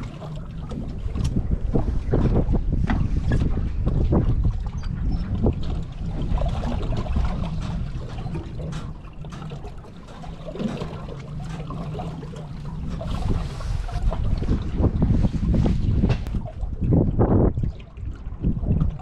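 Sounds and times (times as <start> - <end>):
faint trickling water: 0.0 - 19.0
wind rumbling on microphone: 0.0 - 19.0.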